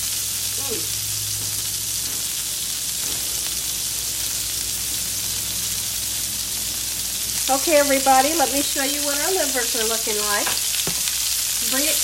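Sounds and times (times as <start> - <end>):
livers sizzling in a pan: 0.0 - 12.0.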